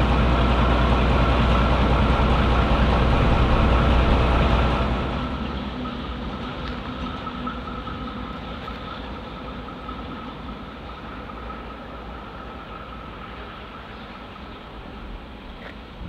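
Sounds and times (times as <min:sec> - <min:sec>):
diesel locomotive engine whining: 0:00.0 - 0:16.0.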